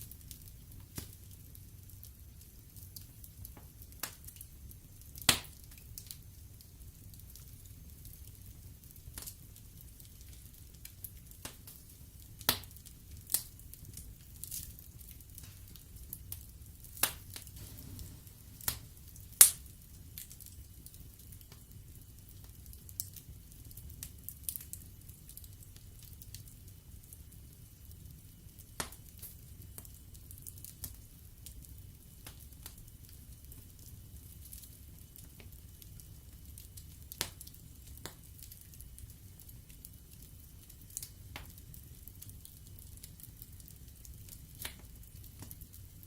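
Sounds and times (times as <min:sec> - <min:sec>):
logs burning and crackling: 0:00.0 - 0:46.0
low rumble of flames: 0:00.0 - 0:46.0.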